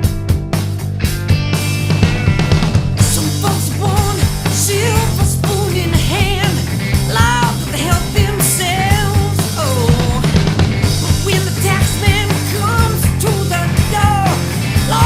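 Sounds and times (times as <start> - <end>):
rock song with singer: 0.0 - 15.0.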